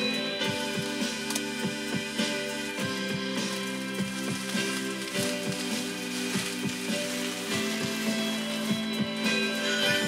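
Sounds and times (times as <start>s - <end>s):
instrumental music with plucked strings: 0.0s - 10.0s.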